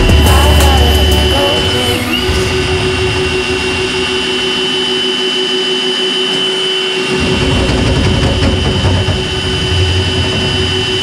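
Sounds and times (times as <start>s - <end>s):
drain-cleaning machine motor whining: 0.0s - 11.0s.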